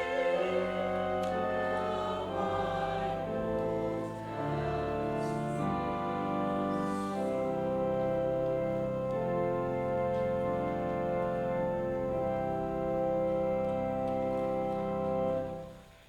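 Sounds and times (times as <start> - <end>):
church choir singing: 0.0 - 16.0.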